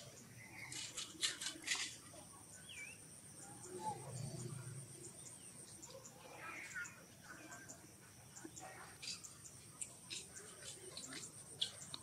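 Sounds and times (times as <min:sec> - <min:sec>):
bird chirp: 0:00.0 - 0:12.0
insect drone: 0:00.0 - 0:12.0.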